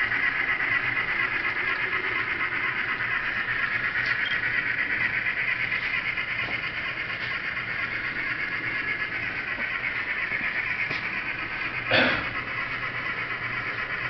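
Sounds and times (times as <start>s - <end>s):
model train exhaust chuffs: 0.0s - 14.0s.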